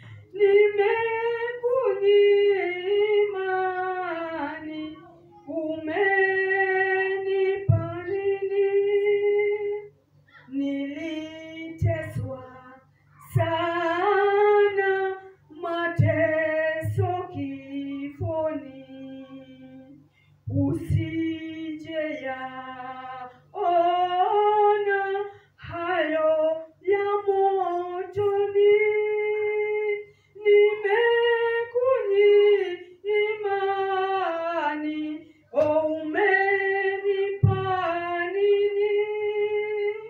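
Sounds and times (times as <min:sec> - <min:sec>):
low electrical hum: 0:00.0 - 0:40.0
woman singing into a microphone: 0:00.0 - 0:40.0.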